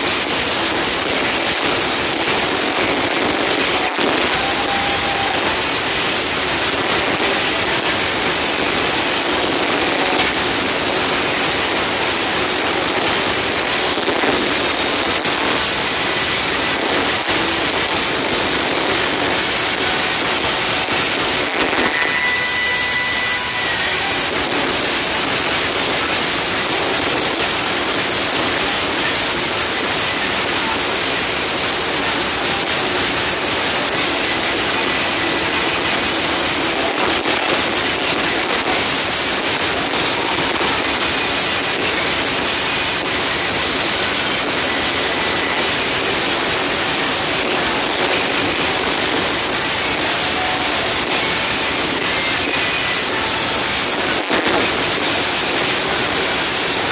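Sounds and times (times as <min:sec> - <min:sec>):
distorted loud club music: 0:00.0 - 0:56.9.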